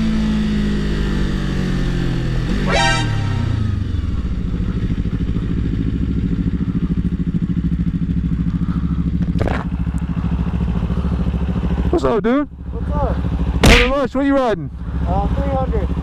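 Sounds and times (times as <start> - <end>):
motorcycle engine idling: 0.3 - 16.0.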